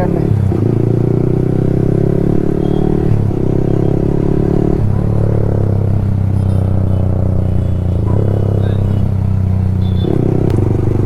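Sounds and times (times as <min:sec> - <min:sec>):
motorcycle engine running loud: 0:00.0 - 0:11.0.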